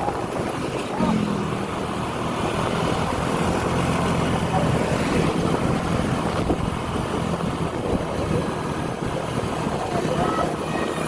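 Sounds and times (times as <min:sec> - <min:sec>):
road noise: 0:00.0 - 0:11.0
vehicle engine running: 0:00.0 - 0:11.0
wind buffeting microphone: 0:00.0 - 0:11.0.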